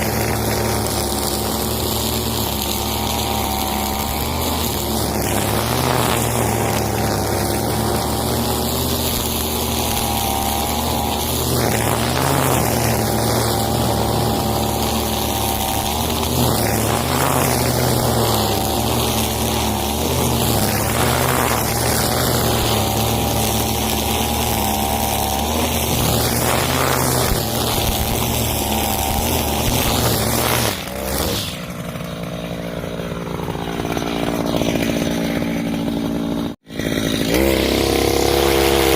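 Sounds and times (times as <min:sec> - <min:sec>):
brush cutter engine whining: 0:00.0 - 0:38.9.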